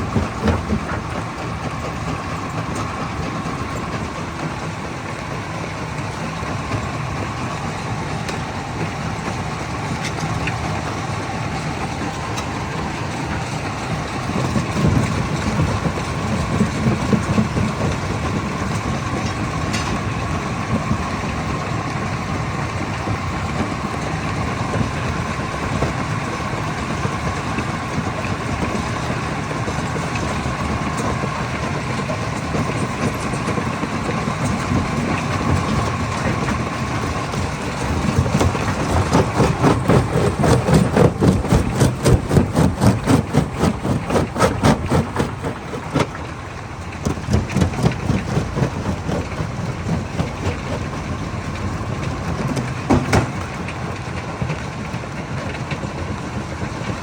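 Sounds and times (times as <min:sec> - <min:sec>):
stone crusher whine: 0:00.0 - 0:55.6
low rumble of crusher: 0:00.0 - 0:57.0.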